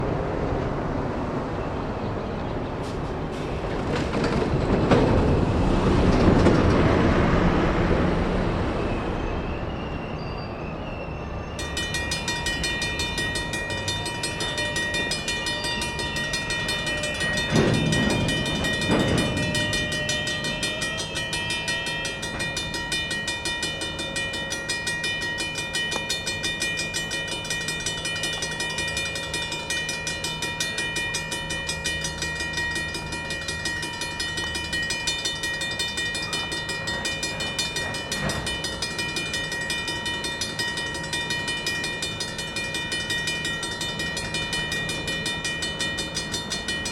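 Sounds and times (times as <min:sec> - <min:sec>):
train noise: 0:00.0 - 0:46.9
railroad crossing bell ringing: 0:03.2 - 0:46.9.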